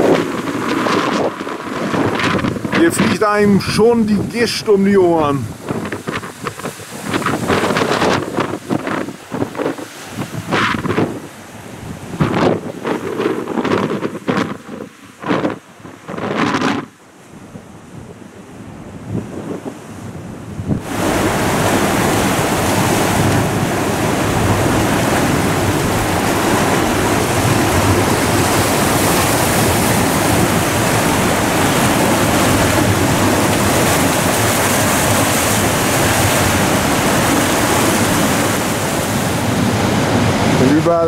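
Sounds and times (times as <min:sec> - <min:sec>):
surf breaking against rocks: 0:00.0 - 0:17.0, 0:20.7 - 0:41.0
wind blowing across microphone: 0:00.0 - 0:41.0.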